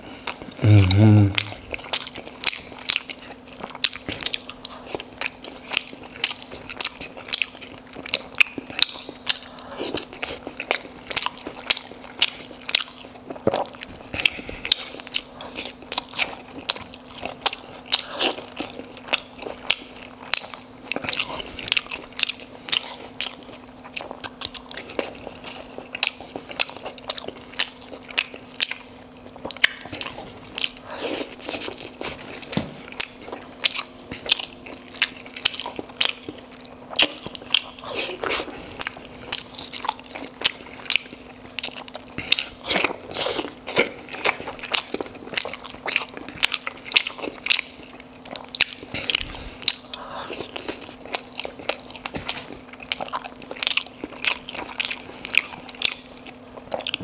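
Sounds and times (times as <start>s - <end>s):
chewing: 0.0s - 57.0s
faint low hum: 0.0s - 57.0s.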